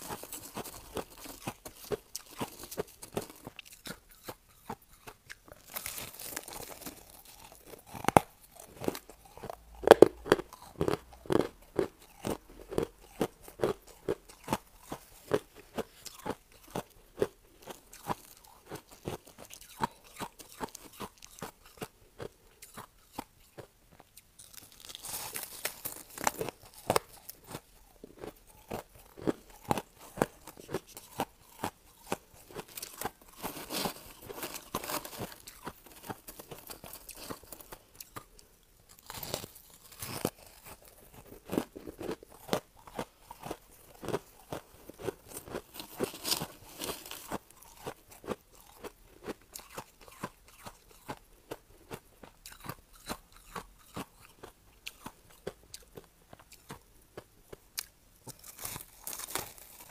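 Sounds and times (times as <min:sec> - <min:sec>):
crushed ice being chewed: 0:00.0 - 0:59.9.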